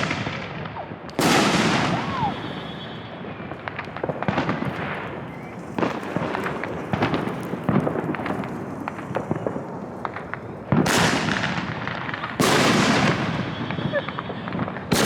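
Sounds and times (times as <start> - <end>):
firework burst with hissing crackle: 0.0 - 15.0
fireworks crackling pops: 0.0 - 15.0.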